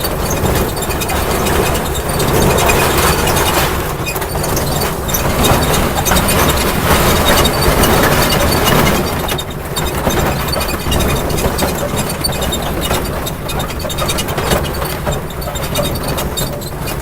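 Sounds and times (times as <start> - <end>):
small train rumbling on rails: 0.0 - 17.0.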